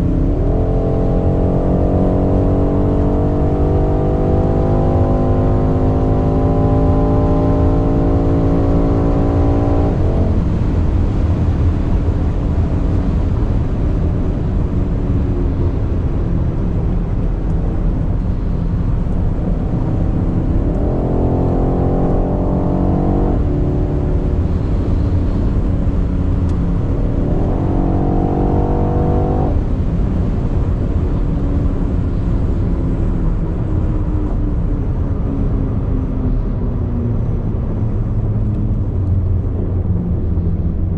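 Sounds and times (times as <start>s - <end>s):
car engine accelerating: 0.0s - 40.9s
road and wind rumble: 0.0s - 40.9s.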